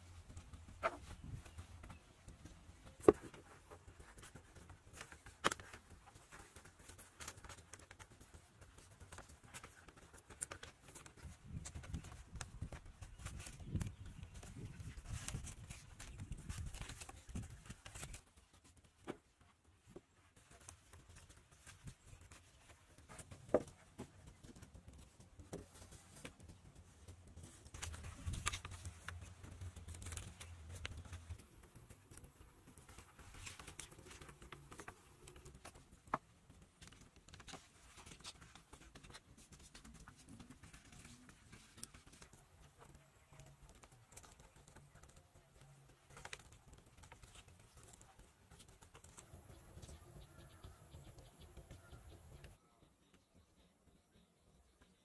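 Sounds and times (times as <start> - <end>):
bamboo poles clicking and knocking: 0.0 - 52.6.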